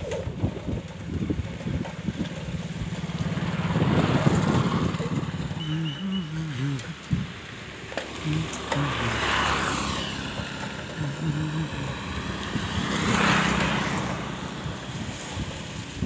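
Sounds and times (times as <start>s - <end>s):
vehicles passing by: 0.0s - 16.0s.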